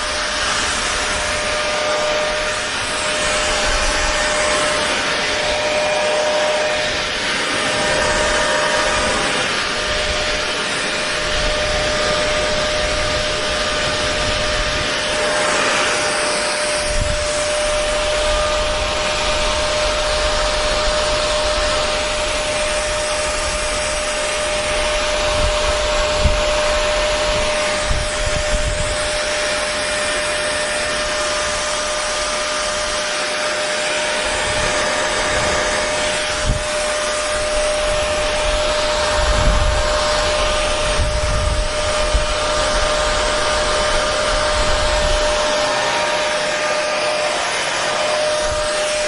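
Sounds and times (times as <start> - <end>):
hair dryer running: 0.0 - 49.0.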